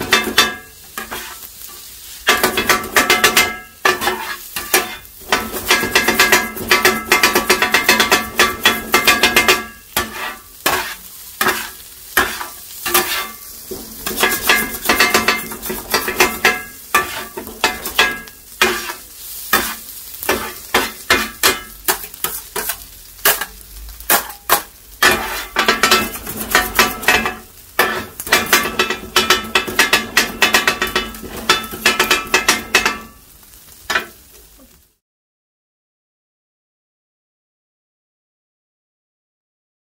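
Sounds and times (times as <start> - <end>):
metal blades chopping on griddle: 0.0 - 33.2, 33.9 - 34.2.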